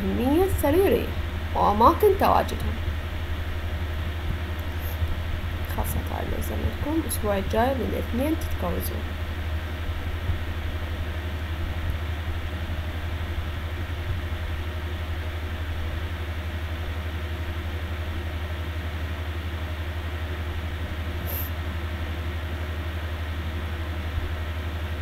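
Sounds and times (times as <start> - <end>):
constant hiss: 0.0 - 25.0
steady low hum: 0.0 - 25.0.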